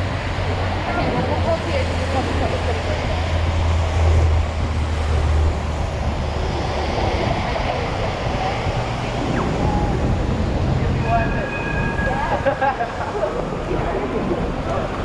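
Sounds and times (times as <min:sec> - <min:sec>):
traffic and tyre noise: 0:00.0 - 0:15.0.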